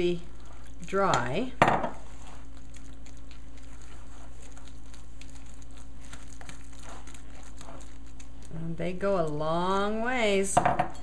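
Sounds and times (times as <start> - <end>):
stirring mashed potatoes: 0.0 - 10.4
steady low hum: 0.0 - 11.0.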